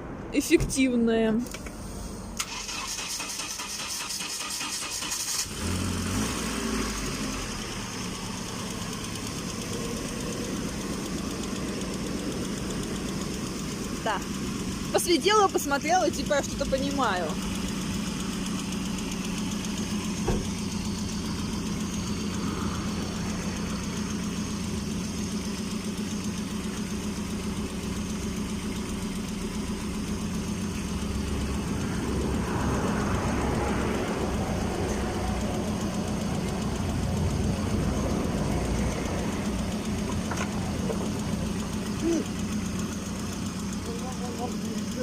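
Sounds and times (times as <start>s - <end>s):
truck engine idling: 0.1s - 45.0s.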